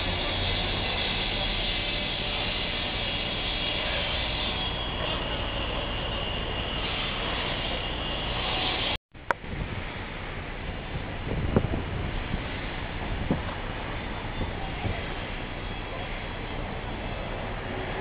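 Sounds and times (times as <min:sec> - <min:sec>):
continuous street rushing noise: 0:00.0 - 0:18.0.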